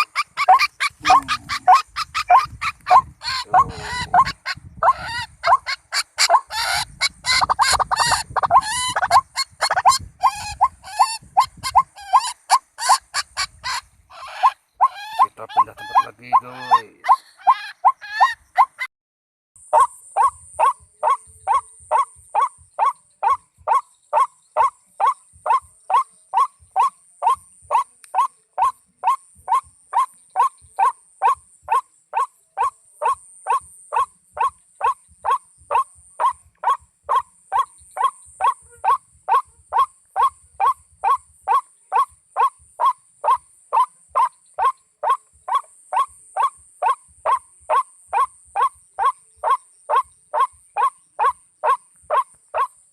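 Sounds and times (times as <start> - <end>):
waterhen calling: 0.0 - 18.9, 19.7 - 52.7.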